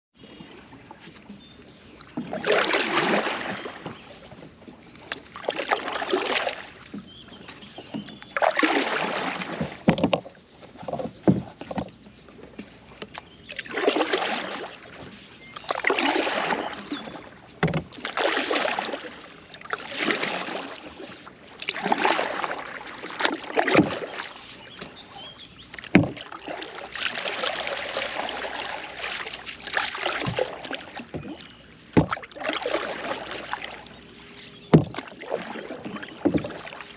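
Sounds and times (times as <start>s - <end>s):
kayak paddle splashing water: 0.2s - 36.9s.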